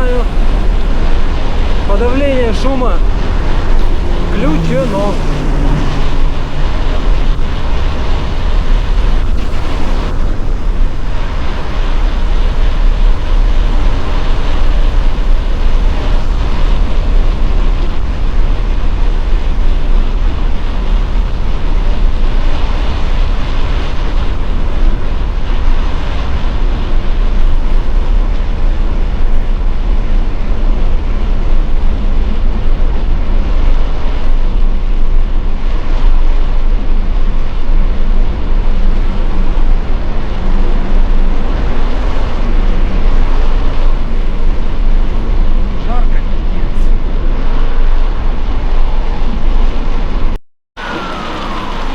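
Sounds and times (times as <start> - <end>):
wind rushing on microphone: 0.0 - 51.9.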